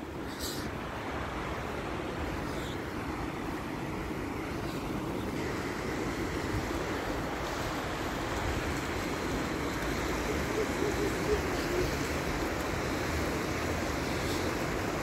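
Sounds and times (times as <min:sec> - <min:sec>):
river pouring over a weir: 0:00.0 - 0:15.0.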